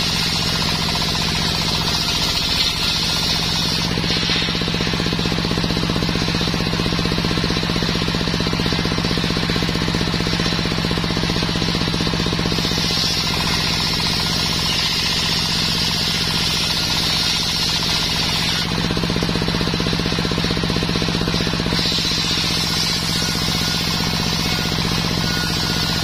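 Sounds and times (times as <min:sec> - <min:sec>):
table saw ripping a plank: 0:00.0 - 0:26.0.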